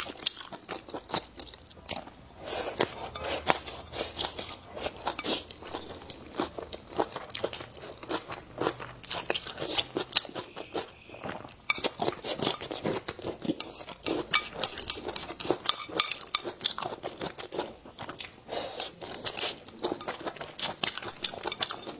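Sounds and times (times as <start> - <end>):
person chewing crunchy food: 0.0 - 21.9.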